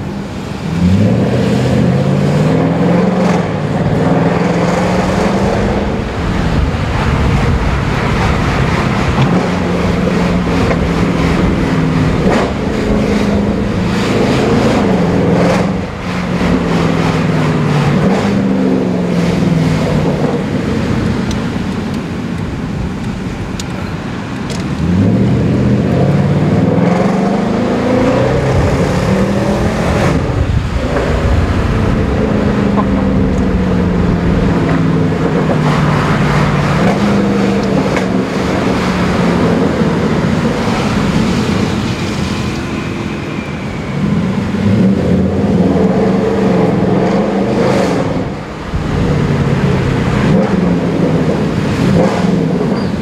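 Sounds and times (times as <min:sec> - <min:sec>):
car exhaust accelerating: 0:00.0 - 0:53.0.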